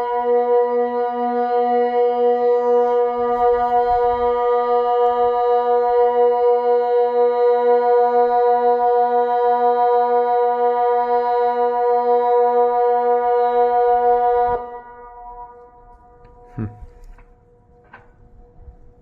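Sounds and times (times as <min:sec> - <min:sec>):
steady siren tone: 0:00.0 - 0:16.6.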